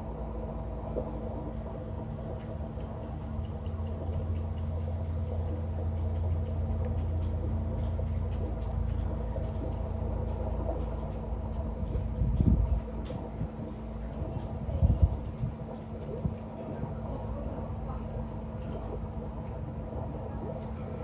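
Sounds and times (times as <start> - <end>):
deep drone: 0.0 - 21.0
low mechanical hum: 0.0 - 21.0.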